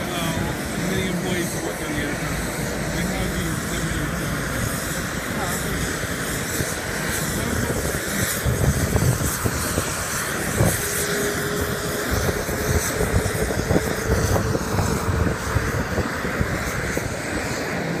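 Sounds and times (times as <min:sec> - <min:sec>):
engines and ground vehicles running: 0:00.0 - 0:18.0.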